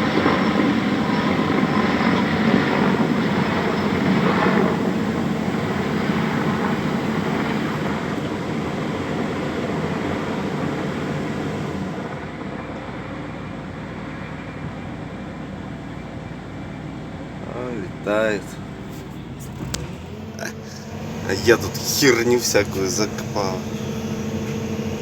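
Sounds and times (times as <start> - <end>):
helicopter rotor and engine roar: 0.0 - 25.0.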